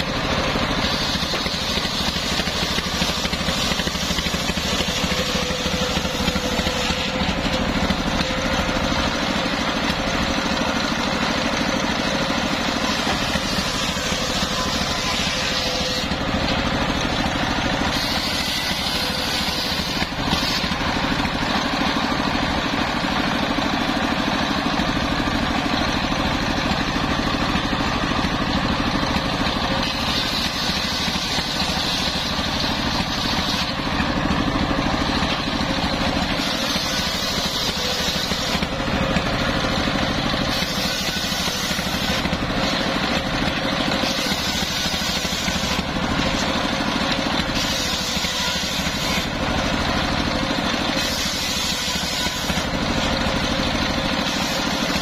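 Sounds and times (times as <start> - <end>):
circular saw ripping timber: 0.0 - 55.0
stationary engine droning: 0.0 - 55.0.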